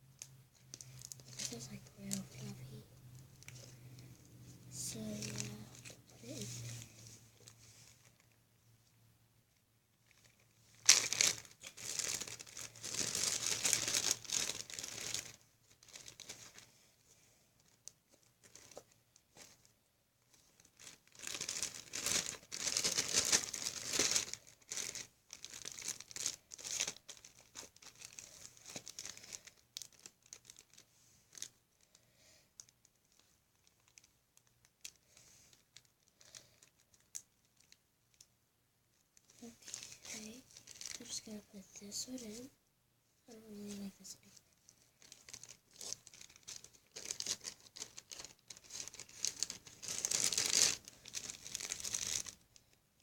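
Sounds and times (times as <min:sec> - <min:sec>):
plastic bag crinkling: 0:00.2 - 0:08.4, 0:10.0 - 0:16.8, 0:17.6 - 0:32.0, 0:32.6 - 0:38.3, 0:39.2 - 0:42.4, 0:43.5 - 0:52.8.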